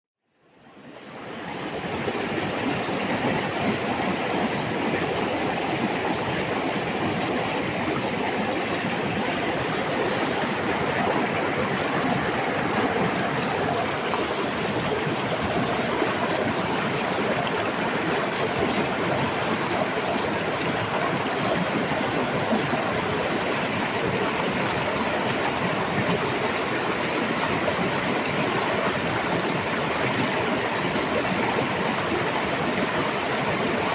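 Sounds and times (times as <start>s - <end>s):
stream rushing: 0.5s - 33.9s.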